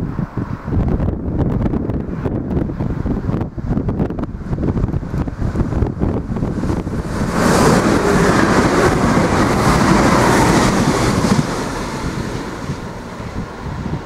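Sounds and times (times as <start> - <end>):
train passing at speed: 0.0 - 14.0
wind buffeting microphone: 0.0 - 14.0.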